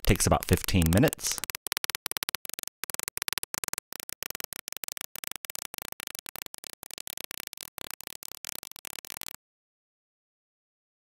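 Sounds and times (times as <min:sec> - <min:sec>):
choppy stuttering music: 0:00.0 - 0:09.4.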